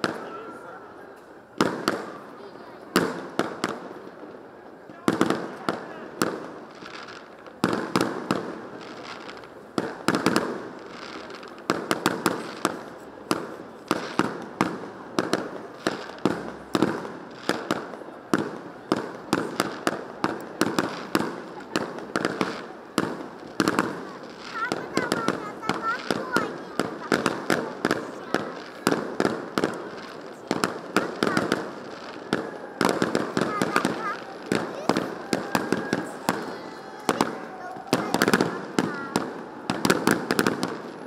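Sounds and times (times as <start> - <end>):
fireworks bursting: 0.0 - 41.0.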